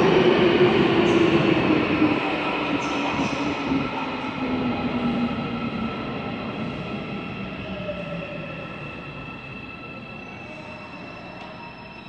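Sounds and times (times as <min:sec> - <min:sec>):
subway train slowing to a stop: 0:00.0 - 0:12.0.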